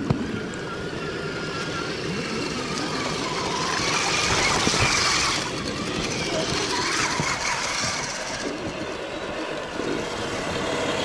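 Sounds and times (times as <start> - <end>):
toy truck electric motors whining: 0.0 - 11.0.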